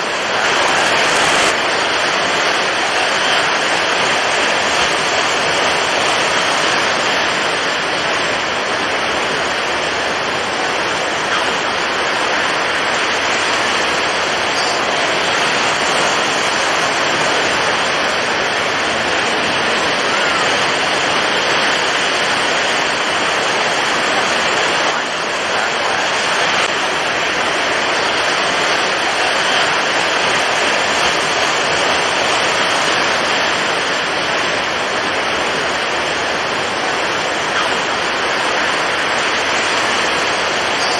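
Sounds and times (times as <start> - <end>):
heavy waves: 0.0 - 40.9
strong wind: 0.0 - 40.9.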